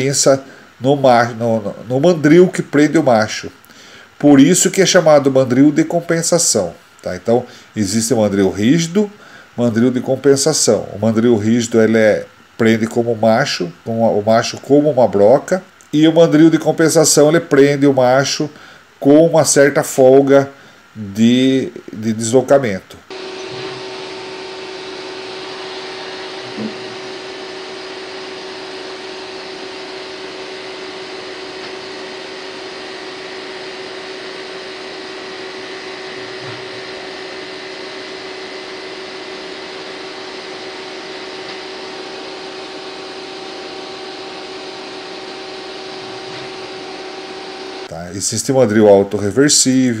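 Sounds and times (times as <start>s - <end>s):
machine humming and hissing: 0.0s - 22.3s, 23.0s - 48.7s.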